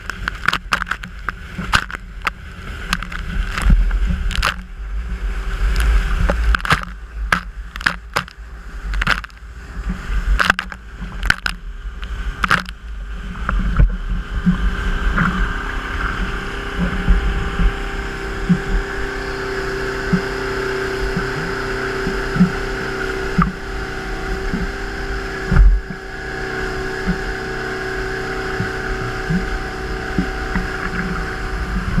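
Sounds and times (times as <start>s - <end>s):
motorboat engine rumbling: 0.0s - 32.0s.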